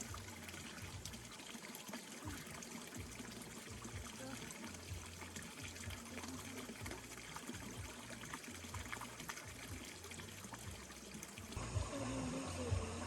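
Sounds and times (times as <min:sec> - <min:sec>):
small water splashes: 0:00.0 - 0:11.6
water running and trickling: 0:00.0 - 0:11.6.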